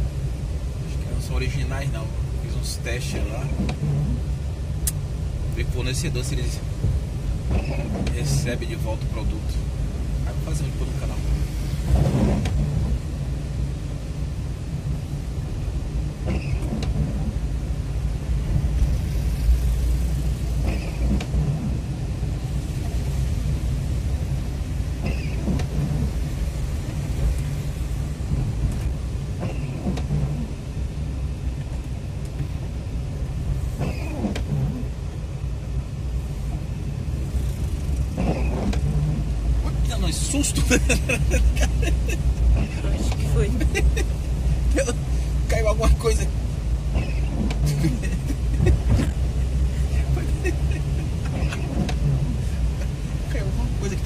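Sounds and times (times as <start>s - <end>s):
car engine and road rumble: 0.0s - 54.0s
windshield wipers sweeping: 0.0s - 54.0s.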